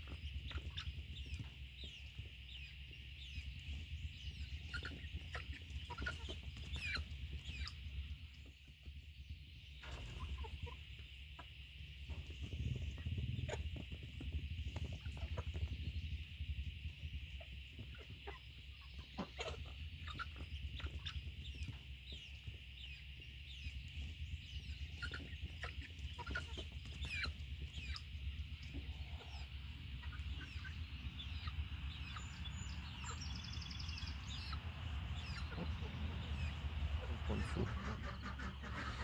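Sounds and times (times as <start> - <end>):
hens clucking: 0.0 - 8.8, 9.6 - 39.0
steady low hum: 0.0 - 39.0.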